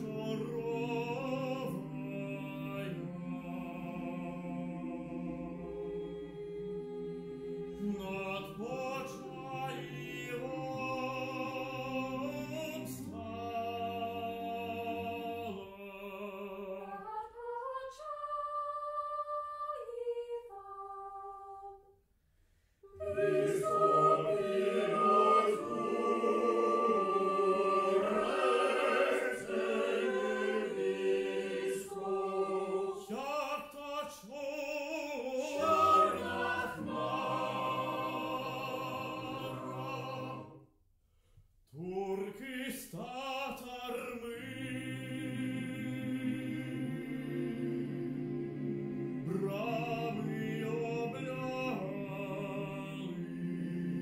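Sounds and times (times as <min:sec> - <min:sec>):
mixed choir singing: 0:00.0 - 0:21.8, 0:22.8 - 0:40.7, 0:41.8 - 0:54.0.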